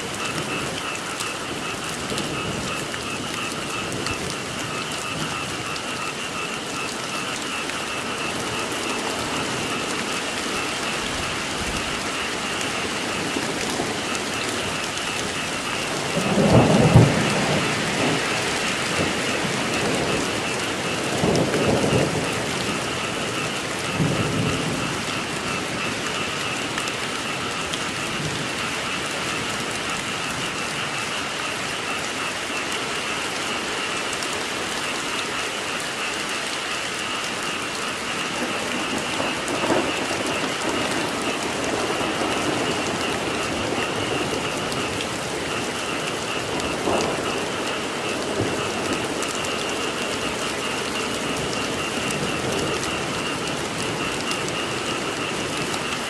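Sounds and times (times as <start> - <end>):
thunder rumbling: 0.0 - 33.1, 37.0 - 56.0
frogs calling: 0.0 - 56.0
rain falling: 0.0 - 56.0.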